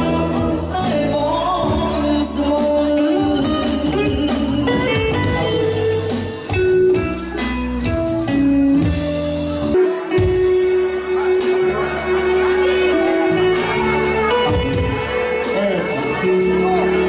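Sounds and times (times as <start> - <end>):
instrumental band music: 0.0 - 17.0.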